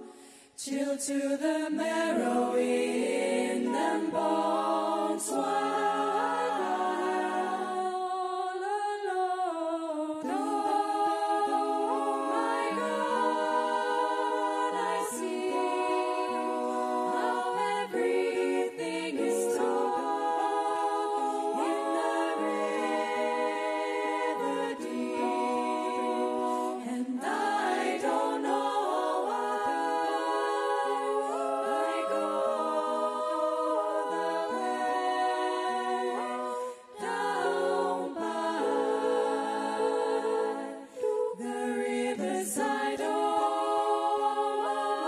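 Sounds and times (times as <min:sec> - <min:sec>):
women's choir singing in harmony: 0:00.0 - 0:45.0.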